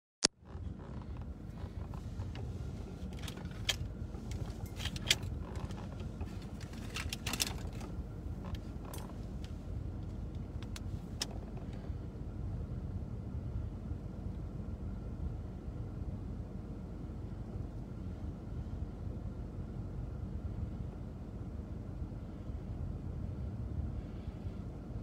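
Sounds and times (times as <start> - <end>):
low rumble inside a car: 0.3 - 25.0.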